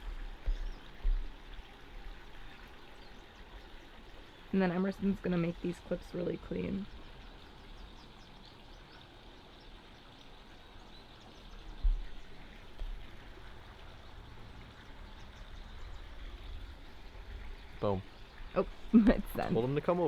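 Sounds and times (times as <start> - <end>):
flowing water rush: 0.0 - 20.0.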